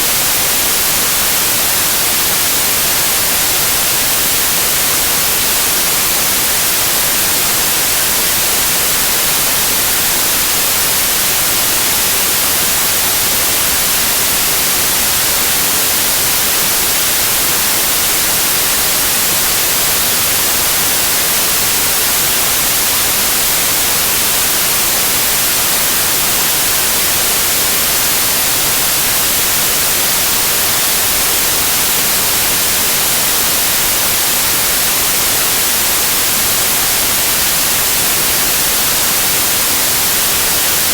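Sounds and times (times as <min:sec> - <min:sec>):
tv static hiss: 0:00.0 - 0:40.9.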